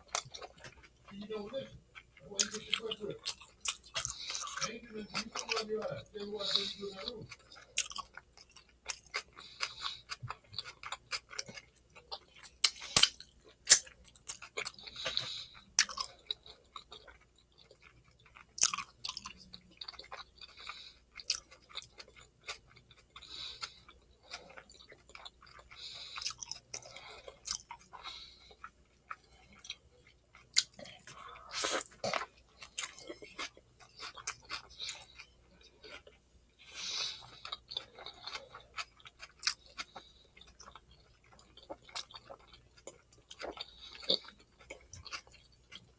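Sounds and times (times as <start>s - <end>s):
person chewing food: 0.0s - 45.9s.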